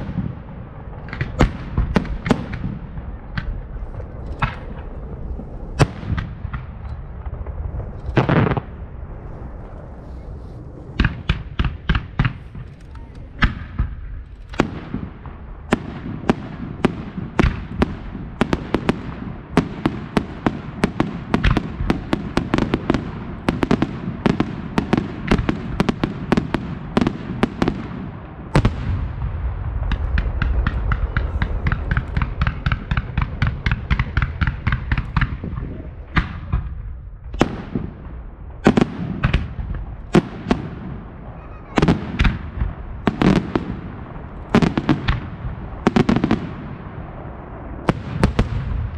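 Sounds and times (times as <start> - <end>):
fireworks banging: 0.0 - 48.9.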